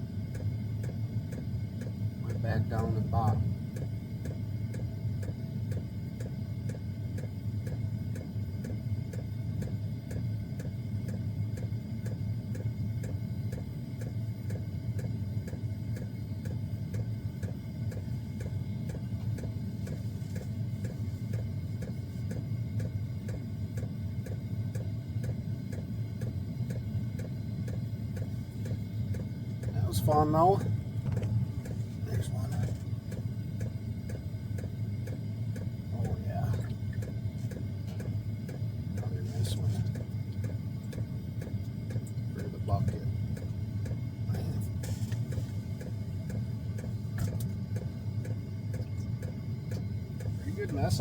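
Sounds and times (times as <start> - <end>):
air heater fan hum: 0.0 - 51.0
fuel pump ticking: 0.0 - 51.0.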